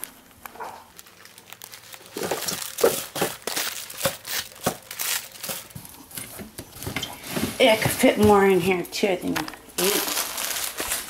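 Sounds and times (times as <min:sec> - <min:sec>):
wrapped toilet rolls crinkling: 0:00.0 - 0:11.0.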